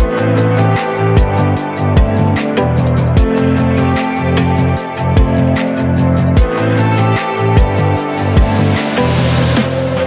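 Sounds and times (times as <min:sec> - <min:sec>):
sustained bass line: 0:00.0 - 0:10.0.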